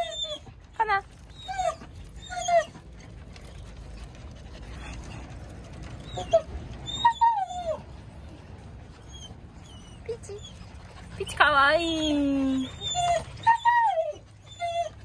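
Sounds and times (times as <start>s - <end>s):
small dogs whining: 0.0s - 3.7s, 4.6s - 8.0s, 9.0s - 15.0s.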